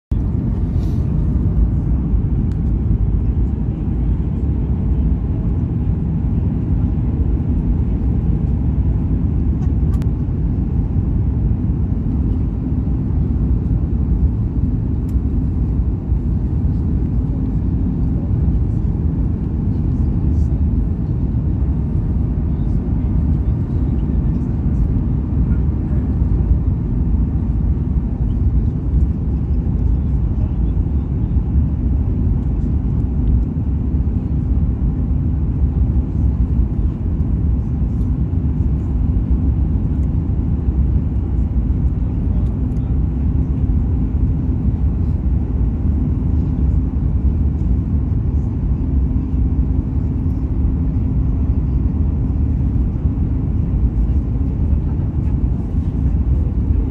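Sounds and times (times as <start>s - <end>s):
airliner cabin engine rumble: 0.1s - 56.9s
faint hum: 0.1s - 56.9s.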